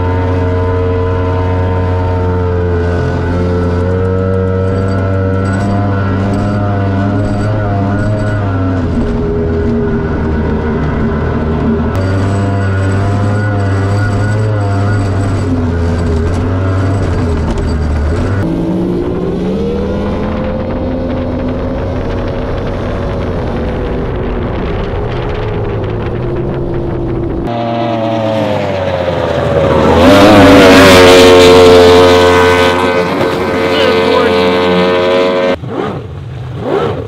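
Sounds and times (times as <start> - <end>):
outboard engine running hard: 0.0 - 35.6.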